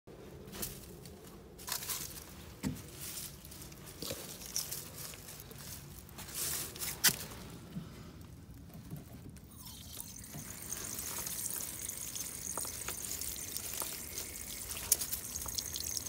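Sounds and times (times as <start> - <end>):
rustling and scraping in dry leaves: 0.3 - 8.2, 10.4 - 15.6.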